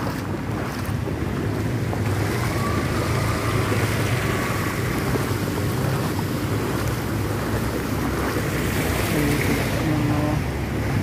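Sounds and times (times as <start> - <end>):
vehicle engine humming: 0.0 - 11.0
water rushing and churning: 0.0 - 11.0.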